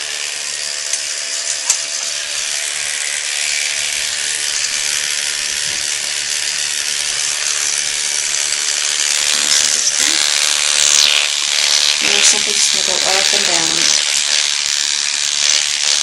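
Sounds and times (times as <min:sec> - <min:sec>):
small motor buzzing: 0:00.0 - 0:16.0.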